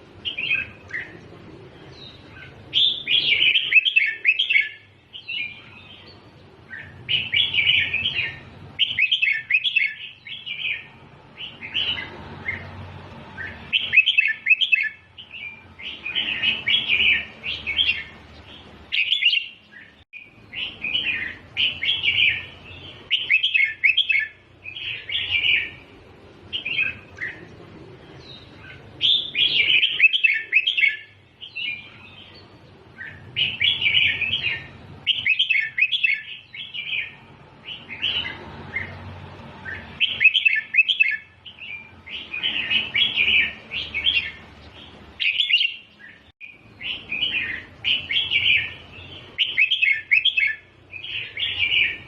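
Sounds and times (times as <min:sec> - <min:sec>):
bird singing chirpy phrases: 0:00.0 - 0:52.0.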